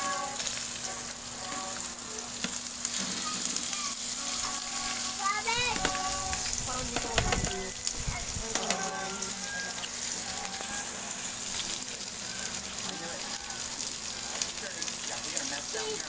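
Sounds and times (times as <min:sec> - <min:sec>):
meat sizzling on grill pan: 0:00.0 - 0:16.0.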